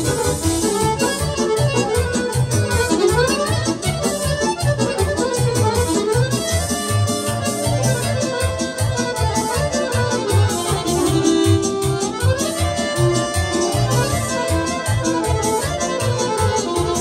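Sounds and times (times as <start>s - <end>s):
accordion melody: 0.0s - 17.0s
keyboard backing: 0.0s - 17.0s.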